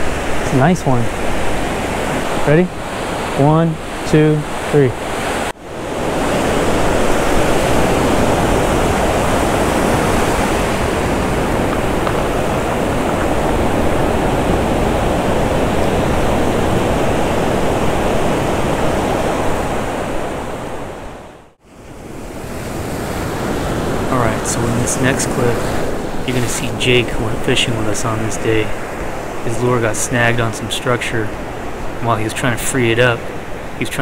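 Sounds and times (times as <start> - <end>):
ocean waves breaking on beach: 0.0 - 34.0.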